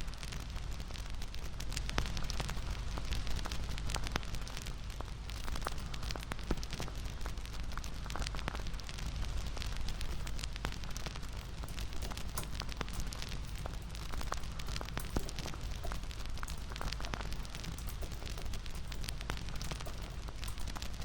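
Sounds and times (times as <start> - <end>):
bonfire snaps and pops: 0.0 - 21.0
low rumble of burning: 0.0 - 21.0.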